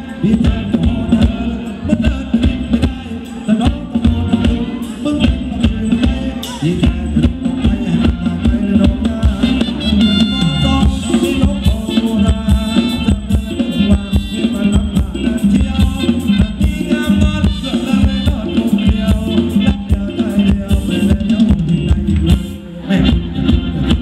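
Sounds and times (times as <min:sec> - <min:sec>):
keyboard melody: 0:00.0 - 0:24.0
live band dance music: 0:00.0 - 0:24.0
quick steady drumbeat: 0:00.2 - 0:24.0.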